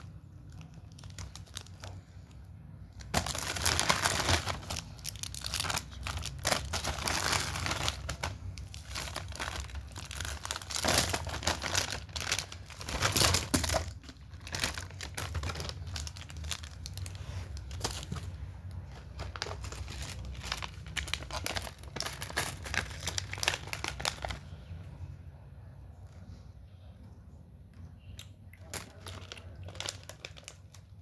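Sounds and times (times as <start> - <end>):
plastic packaging crinkling: 0.0 - 24.7, 28.6 - 31.0.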